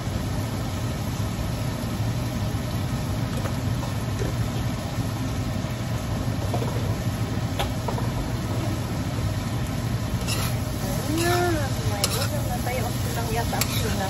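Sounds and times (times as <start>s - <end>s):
stove hissing: 0.0s - 14.0s.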